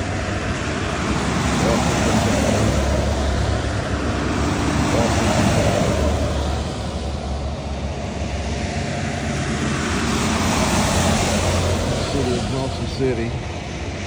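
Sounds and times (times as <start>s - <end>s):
bus engines rumbling: 0.0s - 14.0s
road noise: 0.0s - 14.0s.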